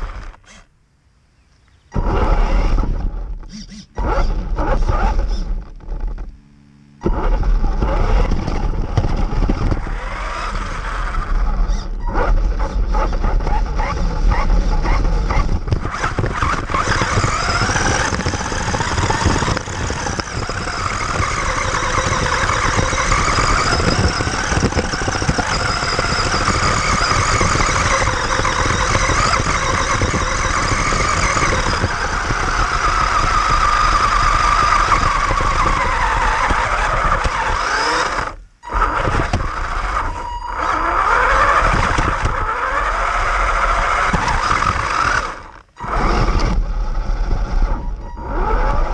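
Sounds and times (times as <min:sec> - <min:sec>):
toy car motor whining: 0:00.0 - 0:00.7, 0:01.9 - 0:06.2, 0:07.0 - 0:48.9.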